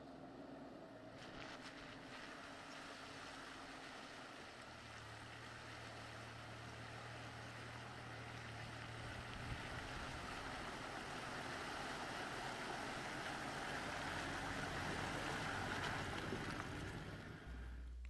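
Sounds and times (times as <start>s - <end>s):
vehicle engine: 0.0s - 18.0s
water splashing around wheels: 0.2s - 18.0s.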